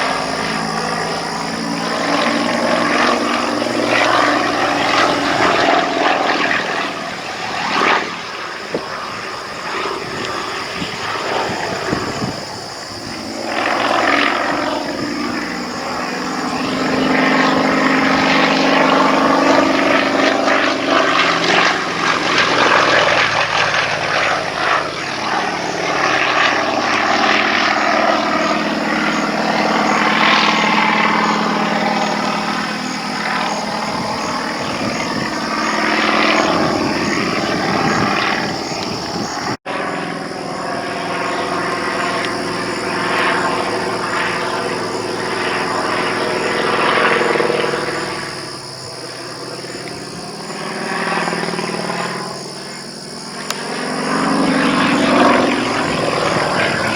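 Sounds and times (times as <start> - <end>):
propeller plane engine: 0.0 - 56.9.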